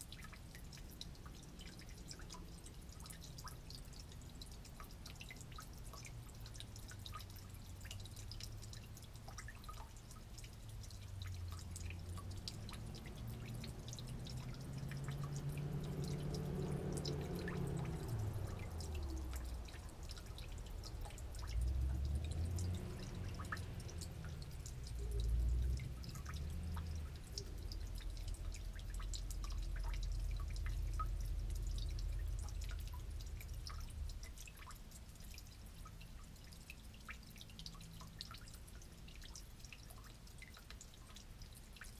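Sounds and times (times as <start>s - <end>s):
fuel dripping into a pan: 0.0s - 41.9s.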